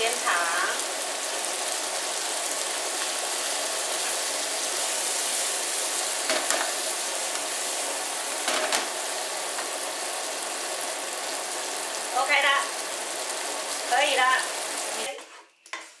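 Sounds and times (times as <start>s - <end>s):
food sizzling in frying pan: 0.0s - 15.4s.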